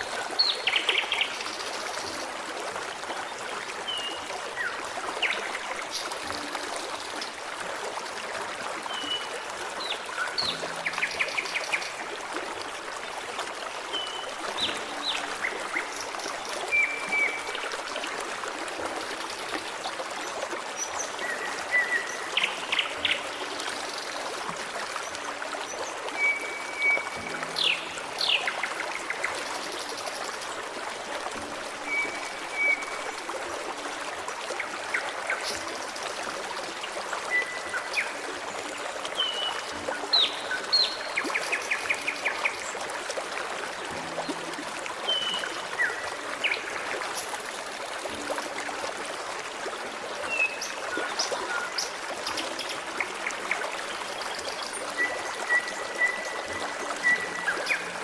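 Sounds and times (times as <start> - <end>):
stream flowing and trickling: 0.0 - 58.0.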